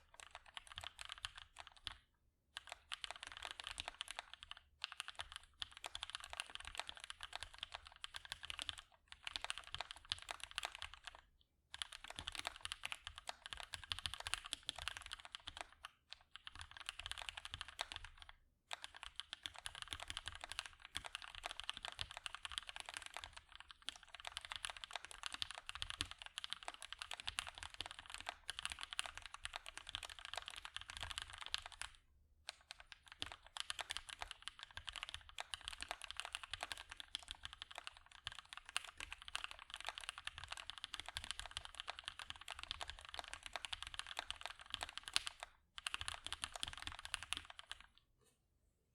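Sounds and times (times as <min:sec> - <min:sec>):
mechanical keyboard typing: 0:00.0 - 0:02.0, 0:02.6 - 0:48.0.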